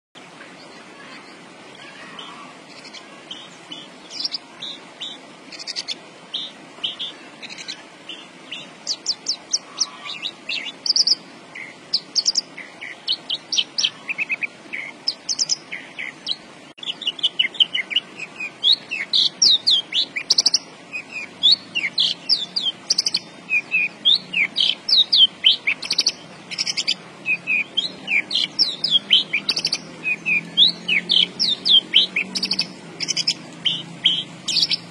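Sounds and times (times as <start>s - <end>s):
lark singing high chirps: 0.6s - 34.9s.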